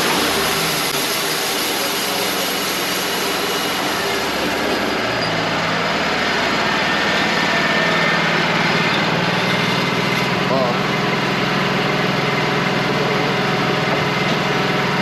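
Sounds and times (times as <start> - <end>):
dense mechanical noise: 0.0 - 15.0
sawmill engine humming: 0.0 - 15.0.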